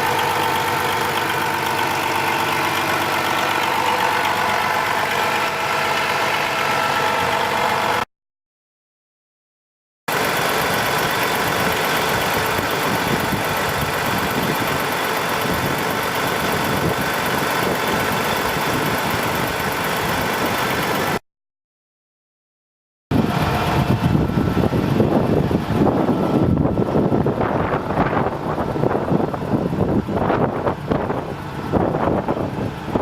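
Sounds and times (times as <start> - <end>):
diesel truck engine idling: 0.0 - 8.1, 10.1 - 21.2, 23.1 - 33.0.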